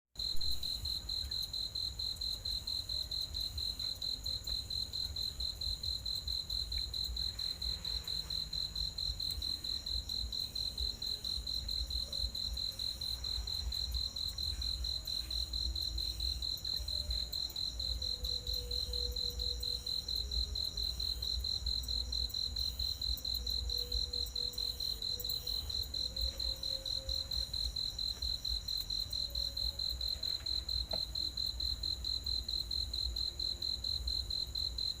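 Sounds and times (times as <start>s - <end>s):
cricket chirping: 0.2s - 35.0s.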